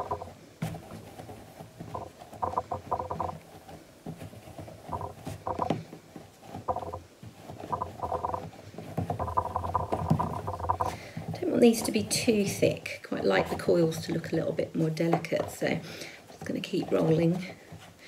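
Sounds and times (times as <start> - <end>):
palms rolling clay on board: 0.0 - 18.0.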